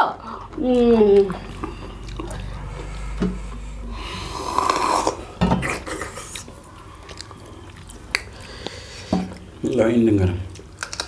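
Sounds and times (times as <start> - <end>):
rasping slurp: 0.2 - 9.6.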